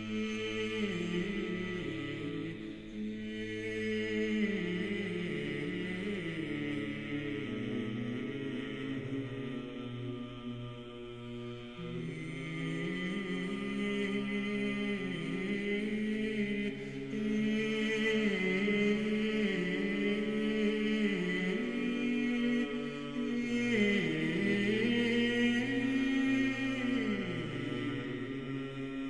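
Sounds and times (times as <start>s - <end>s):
slow vocal chant: 0.0s - 29.0s.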